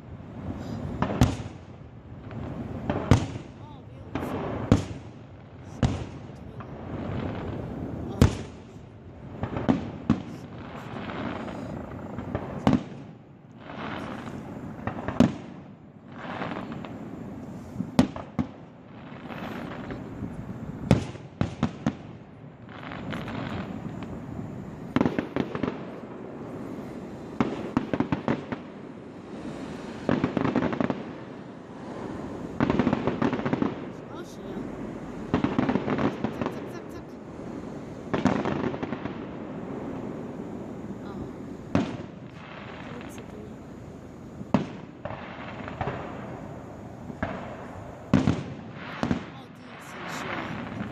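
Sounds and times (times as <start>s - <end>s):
fireworks crackling and hissing: 0.0s - 50.9s.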